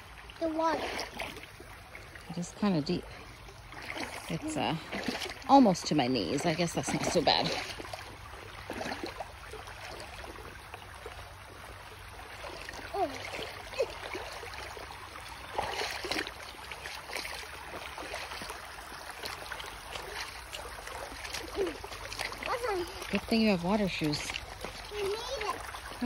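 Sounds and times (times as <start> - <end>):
creek running over stones: 0.0 - 26.0
feet splashing in water: 0.0 - 26.0.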